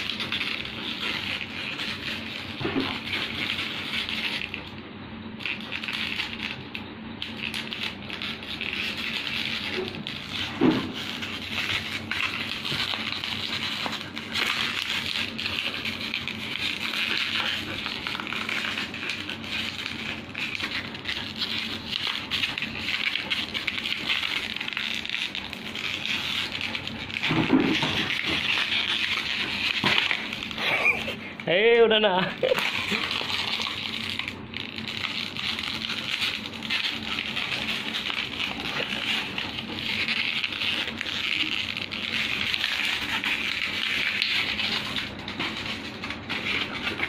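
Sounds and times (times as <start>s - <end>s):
dog chewing plastic bottle: 0.0s - 4.8s, 5.4s - 31.5s, 32.4s - 47.0s
plastic crinkling and crackling: 0.0s - 47.0s.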